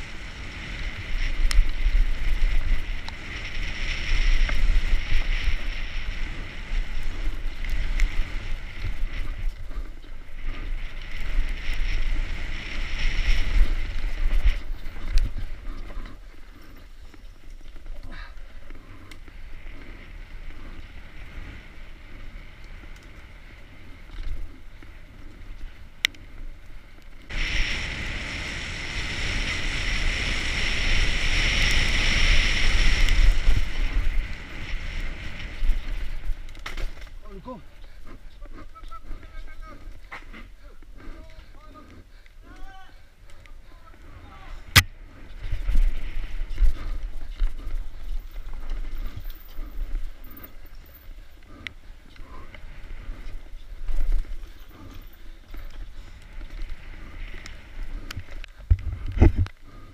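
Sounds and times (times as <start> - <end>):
mountain bike rattling: 0.0 - 59.9
wind buffeting microphone: 0.0 - 59.9.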